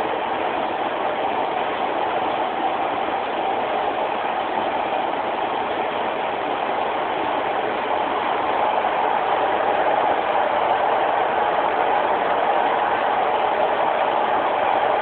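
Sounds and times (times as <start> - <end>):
train engine drone inside carriage: 0.0 - 15.0.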